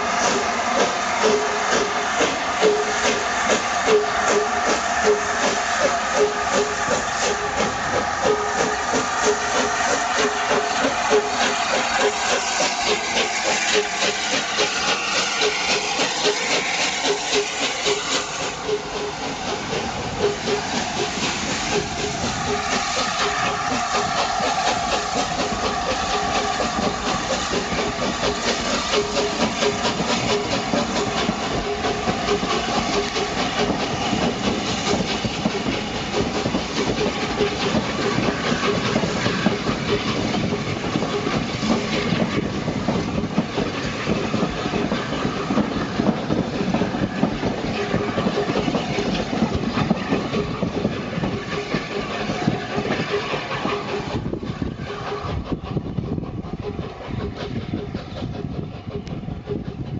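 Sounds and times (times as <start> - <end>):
steam hissing: 0.0 - 59.9
steam locomotive exhaust beats: 0.0 - 59.9
train wheels clattering over rails: 0.0 - 59.9.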